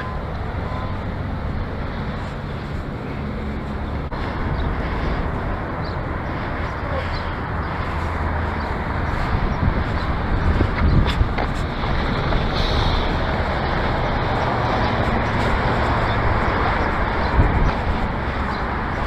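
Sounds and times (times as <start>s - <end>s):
road noise: 0.0s - 19.0s
vehicle rumble: 0.0s - 19.0s.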